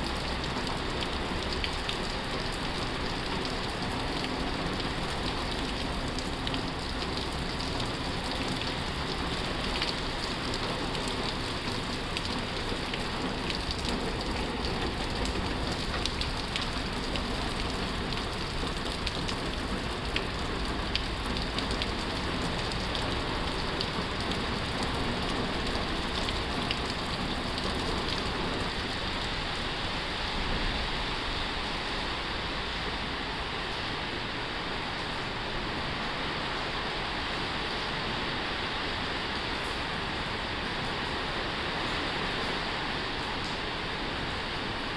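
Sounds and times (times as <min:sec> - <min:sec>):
heavy rain on a tin roof: 0:00.0 - 0:44.9.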